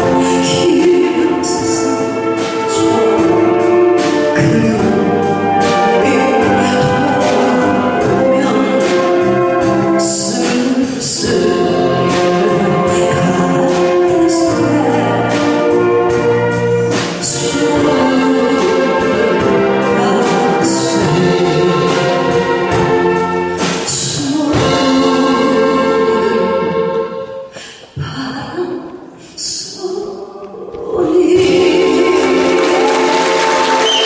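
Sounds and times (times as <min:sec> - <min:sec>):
saxophone ensemble playing: 0:00.0 - 0:27.5, 0:31.2 - 0:34.0.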